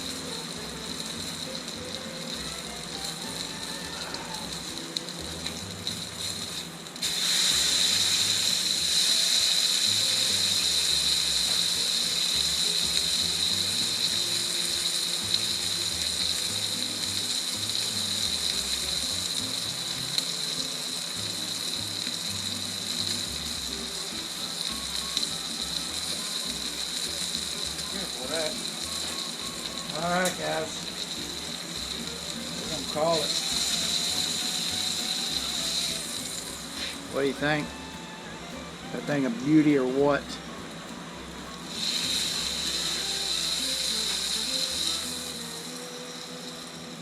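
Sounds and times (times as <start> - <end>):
meat sizzling on a griddle: 0.0 - 47.0.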